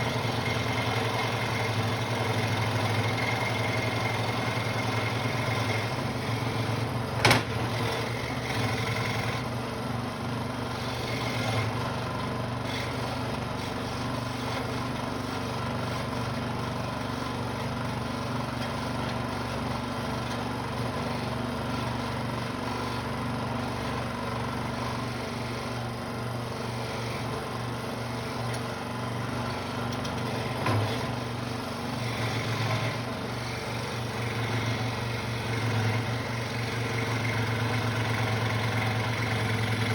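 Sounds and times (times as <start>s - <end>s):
scroll saw cutting wood: 0.0s - 9.7s, 10.3s - 39.9s.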